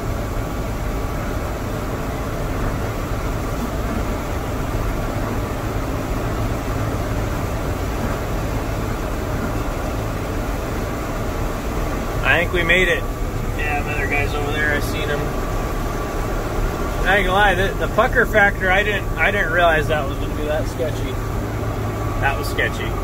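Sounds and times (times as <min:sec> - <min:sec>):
even hiss: 0:00.0 - 0:23.0
tractor diesel engine running: 0:00.0 - 0:23.0.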